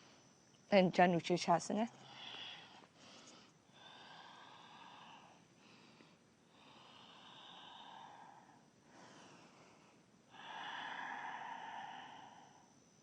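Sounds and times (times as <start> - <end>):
person breathing slowly: 2.0 - 13.0.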